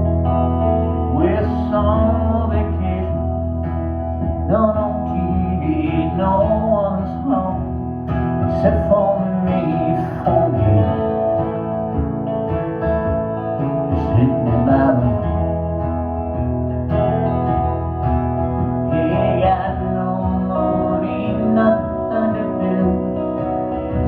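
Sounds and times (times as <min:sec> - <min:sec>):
person singing: 0:00.0 - 0:15.9, 0:18.8 - 0:24.0
guitar: 0:00.0 - 0:24.0
strong bass: 0:00.0 - 0:24.0.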